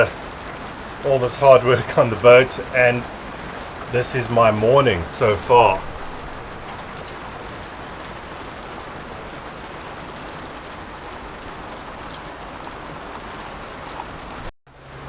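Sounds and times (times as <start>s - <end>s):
heavy rain falling: 0.0s - 15.0s
raindrops ticking: 0.0s - 15.0s.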